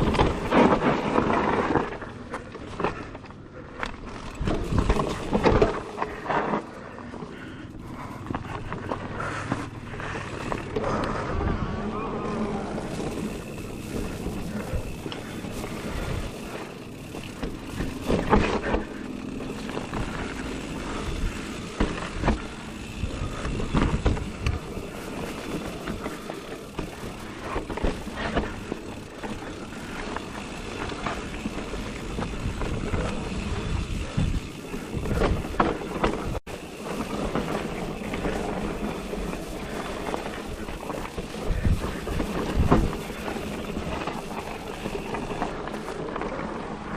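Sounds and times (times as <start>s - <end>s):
bike knocks and rattles: 0.0s - 11.4s, 12.6s - 46.3s
tyre and wind noise: 0.0s - 46.9s.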